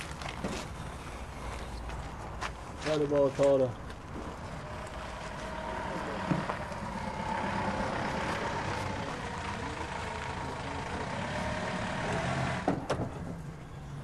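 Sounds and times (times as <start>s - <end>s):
van engine running: 0.0s - 2.8s, 3.8s - 14.0s.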